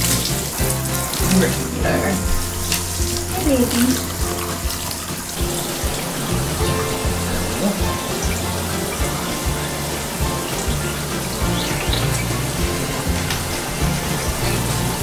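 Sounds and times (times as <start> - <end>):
background music: 0.0 - 15.0
shower water spraying on dog: 0.0 - 15.0.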